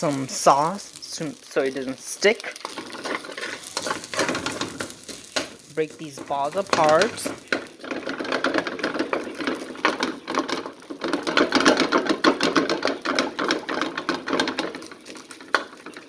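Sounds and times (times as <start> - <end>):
rice frying in oil: 0.0 - 16.0
utensil tapping and scraping pan: 0.0 - 16.0.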